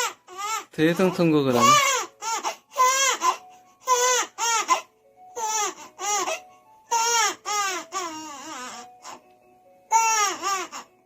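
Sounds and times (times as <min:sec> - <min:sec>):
baby crying: 0:00.0 - 0:09.3, 0:09.9 - 0:11.0.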